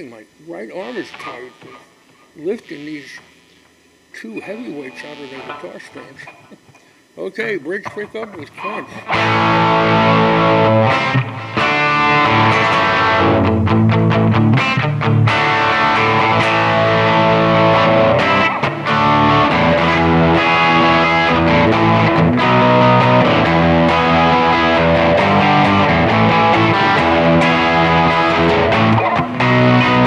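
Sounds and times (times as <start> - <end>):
electric guitar through amplifier: 0.0 - 7.2, 7.8 - 30.0.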